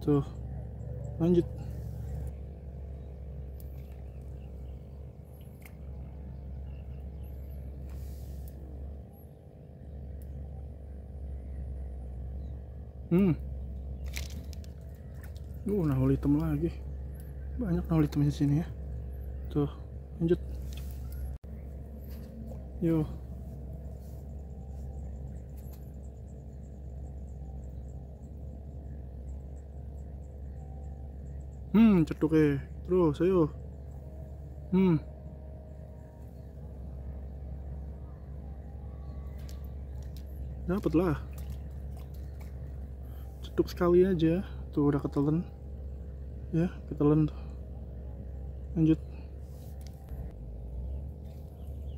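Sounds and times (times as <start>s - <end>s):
faint hum: 0.0s - 51.9s
low outdoor rumble: 0.0s - 51.9s.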